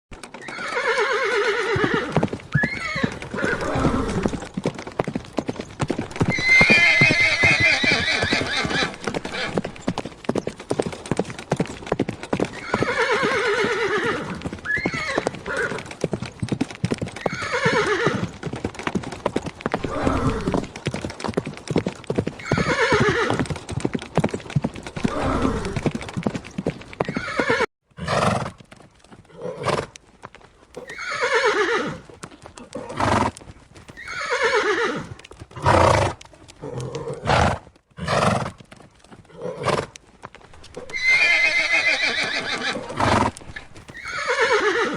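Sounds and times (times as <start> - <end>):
hooves clip-clopping: 0.1 - 44.9
horses neighing: 0.3 - 4.7, 5.3 - 11.6, 12.3 - 21.0, 22.2 - 28.6, 30.8 - 38.6, 39.2 - 40.0, 40.6 - 44.9.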